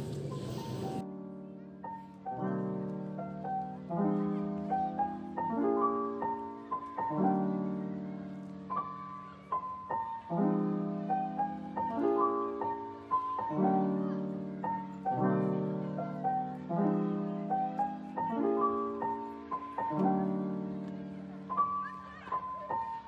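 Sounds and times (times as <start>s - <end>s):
soft piano music: 0.0s - 23.0s.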